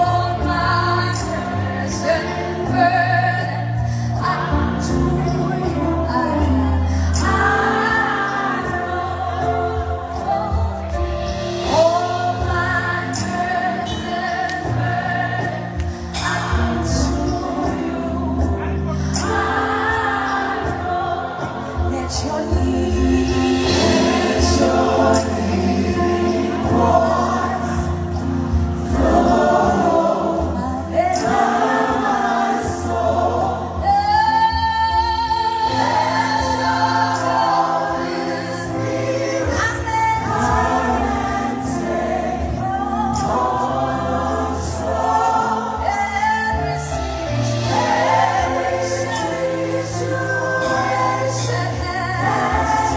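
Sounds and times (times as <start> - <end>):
band playing: 0.0 - 52.9
woman singing into microphone: 0.0 - 52.9
backing choir: 6.9 - 33.9, 35.5 - 52.9.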